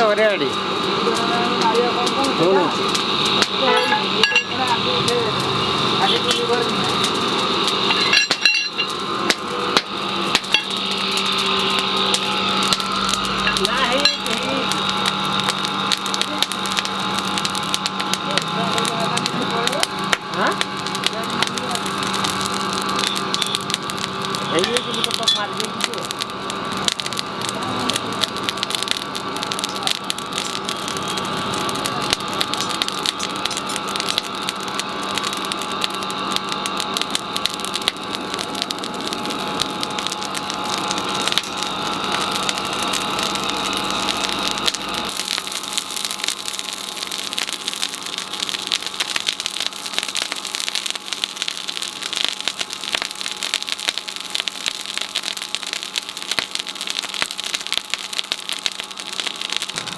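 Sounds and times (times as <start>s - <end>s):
forge fire crackling: 0.0s - 59.9s
air blower hum: 0.4s - 53.7s.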